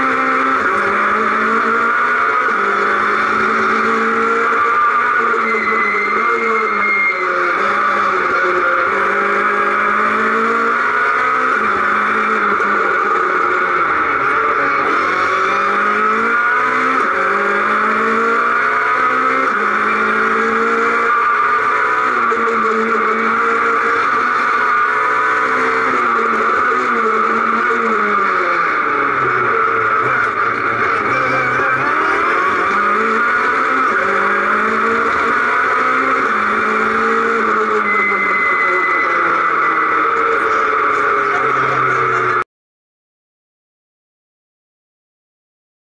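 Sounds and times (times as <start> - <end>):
car engine at full throttle: 0.0 - 42.5.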